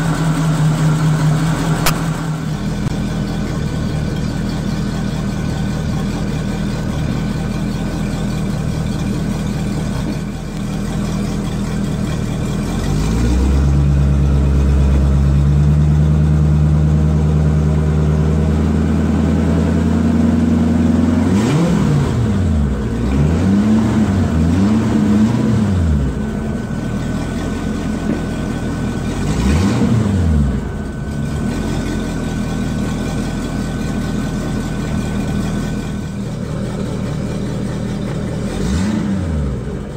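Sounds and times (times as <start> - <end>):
boat engine idling and revving: 0.0 - 39.9.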